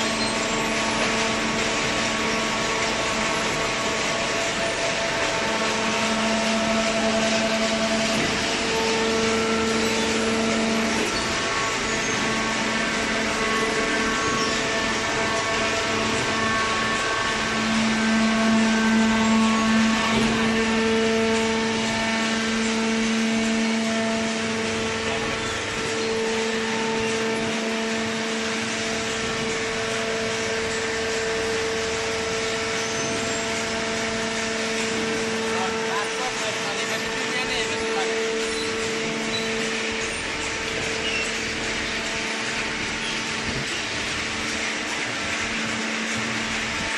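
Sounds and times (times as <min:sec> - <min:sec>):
machine hum: 0:00.0 - 0:46.9
machine whining tones: 0:00.0 - 0:46.9.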